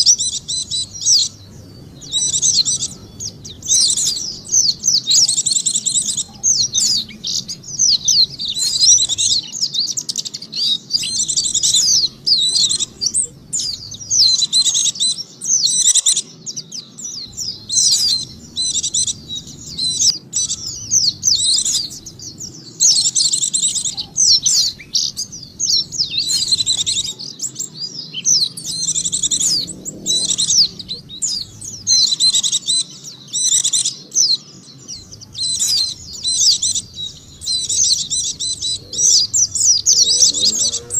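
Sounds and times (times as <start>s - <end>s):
bird high twittering song: 0.0s - 40.9s.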